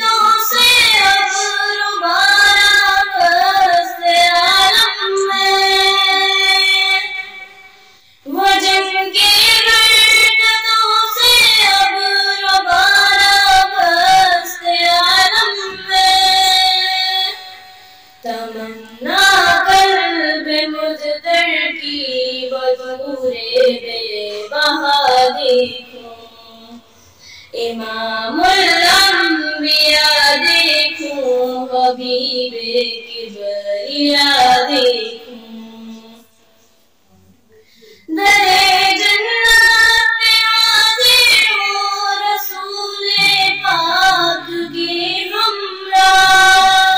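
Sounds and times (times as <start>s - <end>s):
girl singing devotional song: 0.0s - 36.7s, 37.7s - 46.9s.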